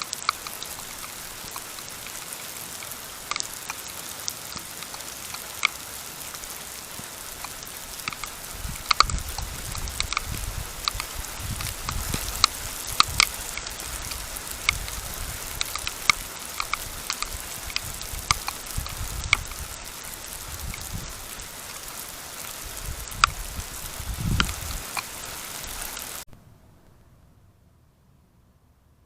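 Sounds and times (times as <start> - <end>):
rain falling: 0.0 - 26.3
raindrops ticking: 0.0 - 26.3.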